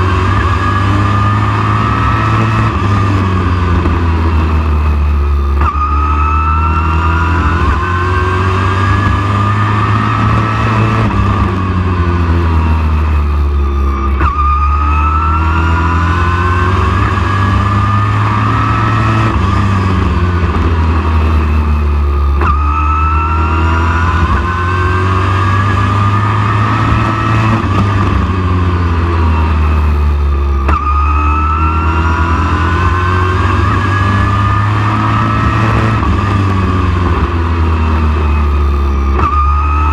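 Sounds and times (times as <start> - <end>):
race truck engine revving: 0.0 - 39.9.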